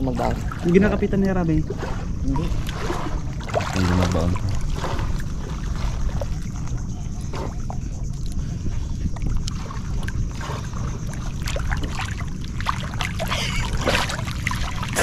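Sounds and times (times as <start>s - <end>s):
small splashes: 0.0s - 15.0s
water sloshing around wader: 0.0s - 15.0s
wind rumble on microphone: 0.0s - 15.0s.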